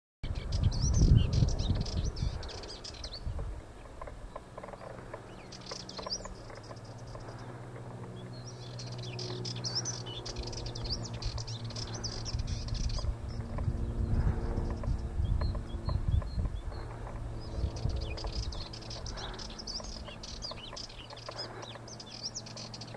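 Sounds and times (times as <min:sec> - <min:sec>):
low steady hum: 0:00.2 - 0:22.9
warbler singing: 0:00.2 - 0:22.9.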